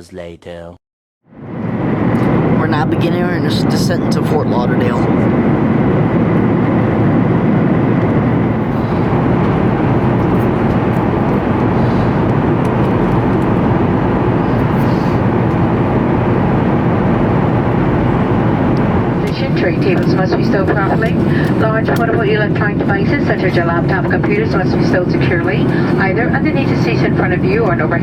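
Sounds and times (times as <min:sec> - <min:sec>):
airplane cabin rumble: 0:01.3 - 0:28.0.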